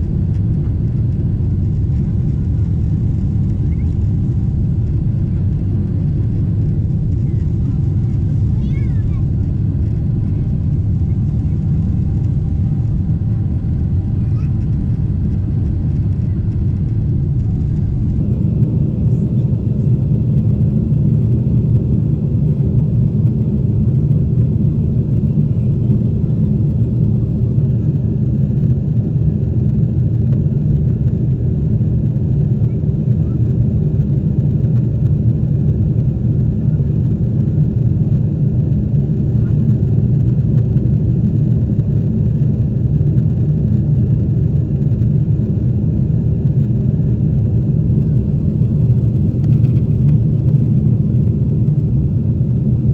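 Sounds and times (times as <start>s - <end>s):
airliner cabin rumble: 0.0s - 52.9s.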